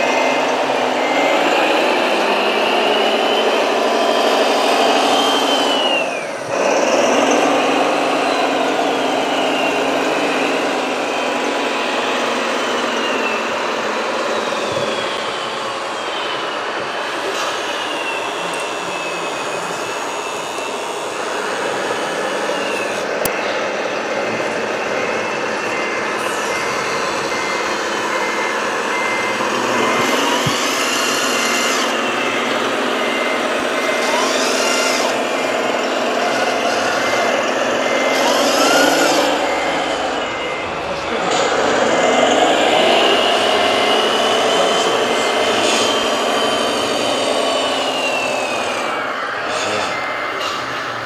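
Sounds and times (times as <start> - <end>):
dense drone: 0.0 - 51.0
reversing beeper: 0.0 - 51.0
small motors whining: 0.0 - 51.0.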